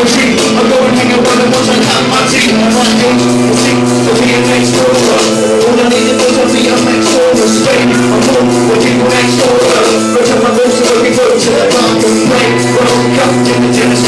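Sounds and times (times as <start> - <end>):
held chords: 0.0 - 14.0
high percussion beat: 0.0 - 14.0.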